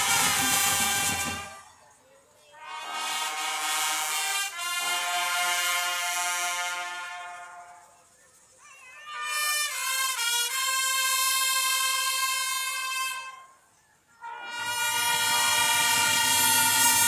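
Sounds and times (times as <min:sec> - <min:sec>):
brass band playing held chords: 0:00.0 - 0:01.7, 0:02.6 - 0:08.0, 0:09.0 - 0:13.6, 0:14.2 - 0:17.0.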